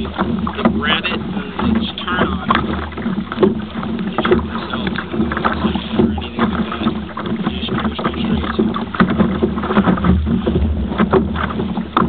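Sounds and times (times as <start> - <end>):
water slapping against kayak: 0.0 - 12.0
wind rumble on microphone: 0.0 - 12.0.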